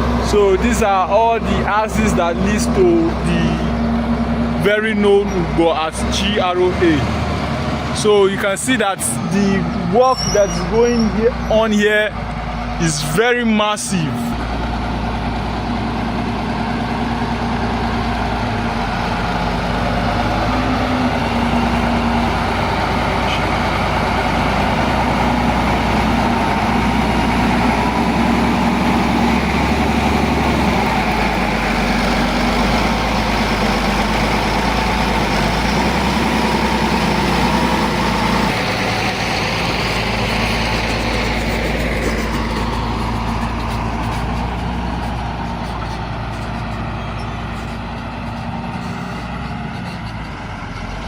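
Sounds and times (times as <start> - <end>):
heavy diesel engines running: 0.0 - 51.0.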